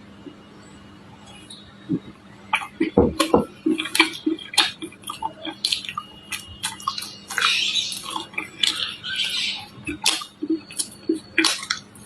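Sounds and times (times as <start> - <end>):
wet mouth sounds: 1.9 - 11.9
crunchy chewing: 1.9 - 12.0.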